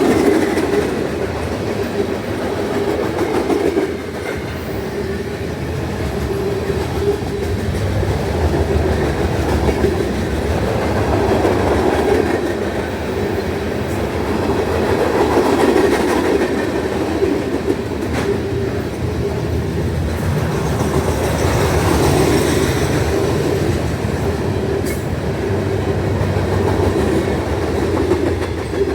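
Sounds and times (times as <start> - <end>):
clickety-clack over rail joints: 0.0 - 28.9
train wheels rumbling on rails: 0.0 - 28.9.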